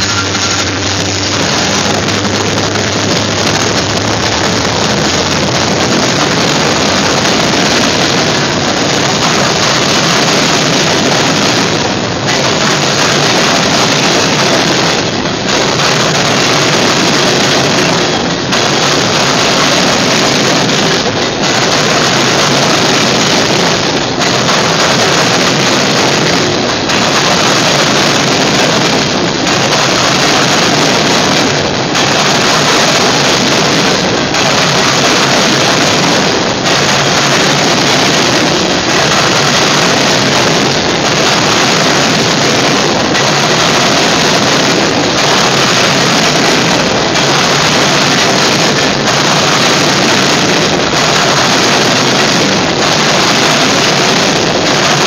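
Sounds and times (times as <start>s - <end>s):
freight train wheels rattling on rails: 0.0s - 55.0s.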